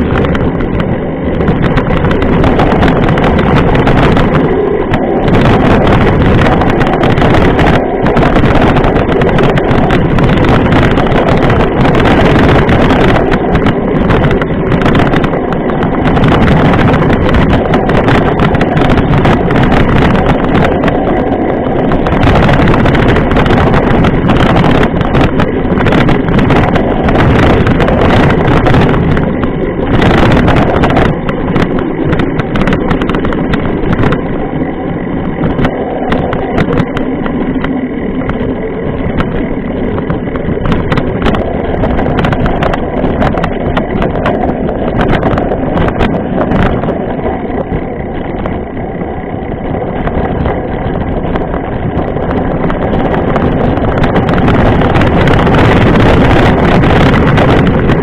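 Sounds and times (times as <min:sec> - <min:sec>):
bike tyre rolling on gravel: 0:00.0 - 0:58.0
gravel clicks and bike rattling: 0:00.0 - 0:58.0
wind on microphone: 0:00.0 - 0:58.0.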